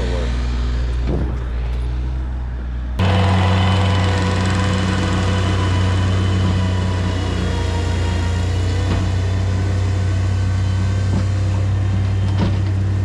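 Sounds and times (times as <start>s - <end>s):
earthmoving machine engine running: 0.0s - 13.0s.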